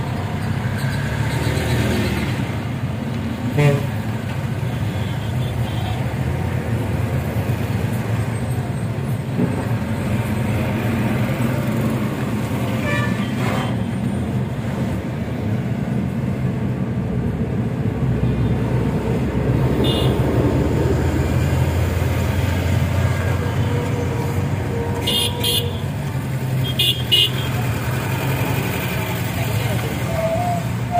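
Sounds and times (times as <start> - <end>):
traffic noise: 0.0 - 30.9
vehicle engine rumbling: 0.0 - 30.9.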